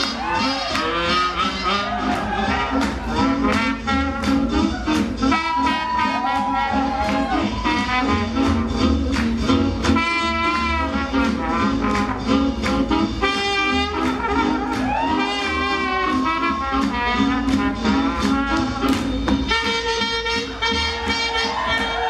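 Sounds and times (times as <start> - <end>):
swing jazz with brass horns: 0.0 - 22.0.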